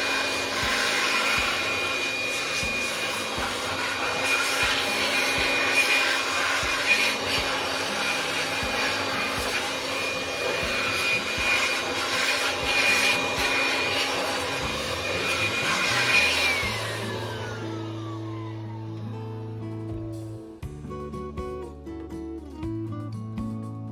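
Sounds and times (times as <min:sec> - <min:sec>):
air blower whining: 0:00.0 - 0:20.4.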